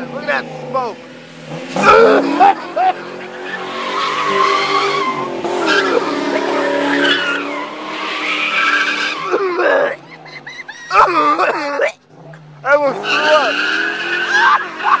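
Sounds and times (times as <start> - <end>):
car engine at high revs: 0.0 - 15.0
tires squealing: 0.0 - 15.0.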